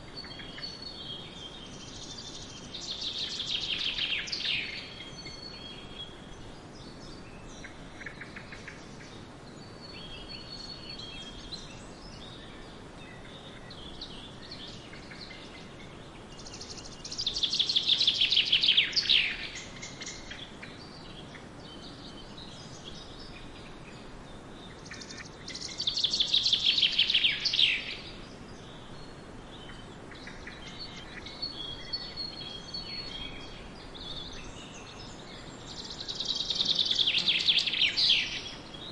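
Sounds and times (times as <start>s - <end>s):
faint bird chirps: 0.0s - 38.9s
songbirds singing: 0.0s - 38.9s
steady soft hiss: 0.0s - 38.9s.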